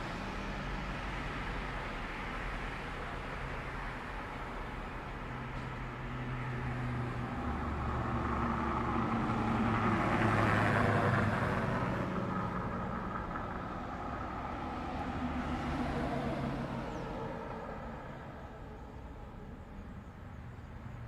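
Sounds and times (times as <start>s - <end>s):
car passing by: 0.0s - 21.0s.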